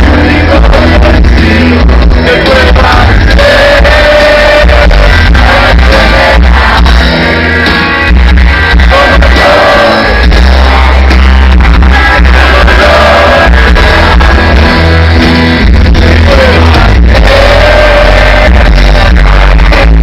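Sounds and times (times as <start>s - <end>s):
person singing: 0.0s - 7.5s, 8.6s - 15.1s, 15.8s - 20.0s
rock band playing live: 0.0s - 20.0s.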